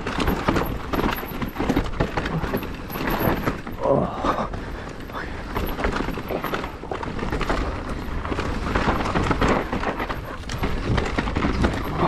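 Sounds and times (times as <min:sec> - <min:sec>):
bike rattling and knocking: 0:00.0 - 0:12.0
wind rumbling on microphone: 0:00.0 - 0:12.0.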